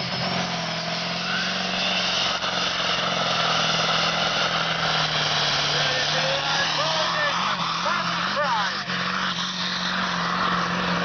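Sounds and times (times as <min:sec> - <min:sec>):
diesel engine under full load: 0:00.0 - 0:11.0
high engine whine: 0:00.0 - 0:11.0.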